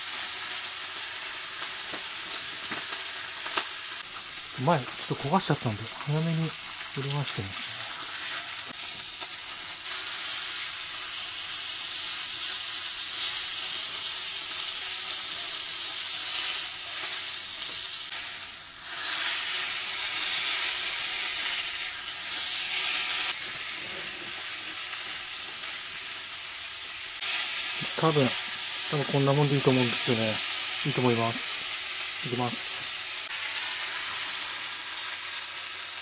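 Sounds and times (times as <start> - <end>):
steak sizzling in a skillet: 0.0 - 36.0.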